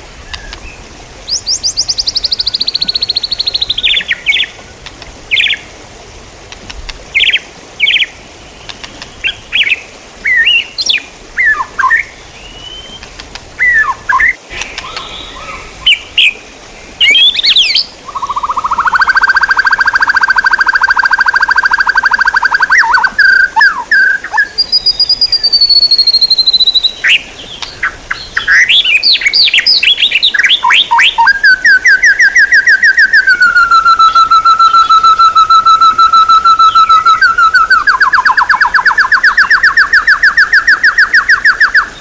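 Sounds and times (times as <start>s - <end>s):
songbird fast trill: 0.3s - 4.6s, 9.2s - 16.4s, 17.0s - 42.0s
songbird whistles and chirps: 0.3s - 4.6s, 9.0s - 16.4s, 17.0s - 42.0s.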